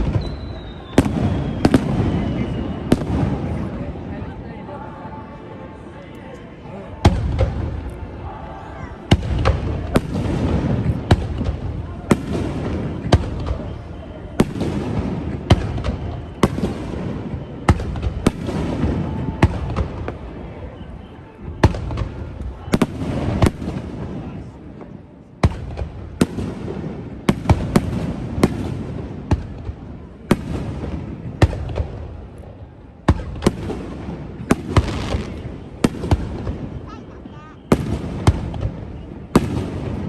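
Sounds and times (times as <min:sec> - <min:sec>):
firework bangs: 0:00.0 - 0:04.1, 0:07.0 - 0:08.0, 0:09.0 - 0:20.8, 0:21.4 - 0:40.0.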